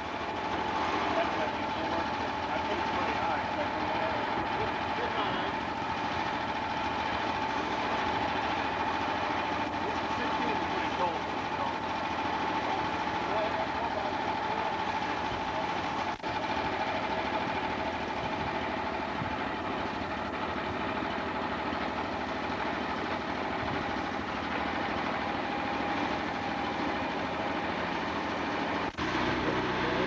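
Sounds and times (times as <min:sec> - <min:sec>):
sawmill machine drone: 0:00.0 - 0:30.0.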